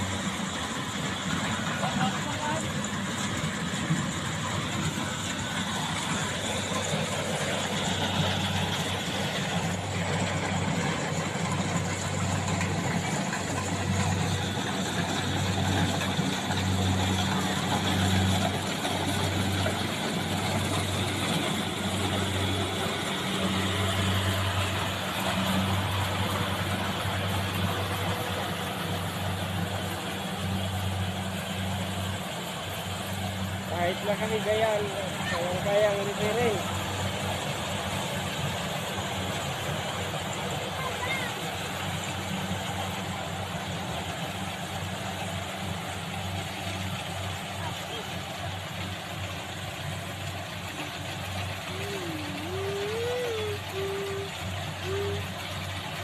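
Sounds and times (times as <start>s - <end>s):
harvesting machine engine humming: 0.0s - 56.0s
steady mechanical noise: 0.0s - 56.0s.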